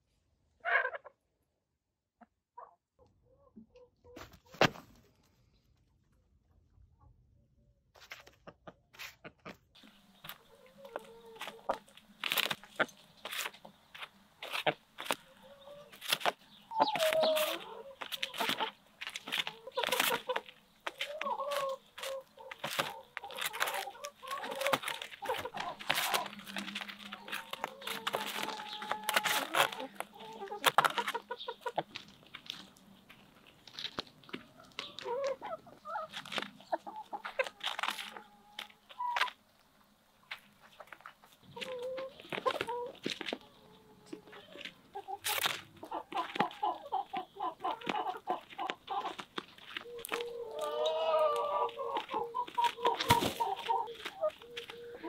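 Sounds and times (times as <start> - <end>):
hens clucking: 0.6 - 1.2, 8.0 - 55.0.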